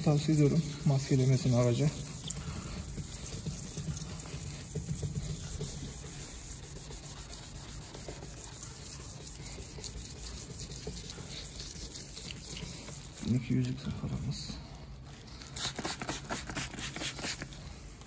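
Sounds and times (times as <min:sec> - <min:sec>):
sandpaper rubbing on plastic: 0:00.0 - 0:13.3, 0:15.5 - 0:17.6.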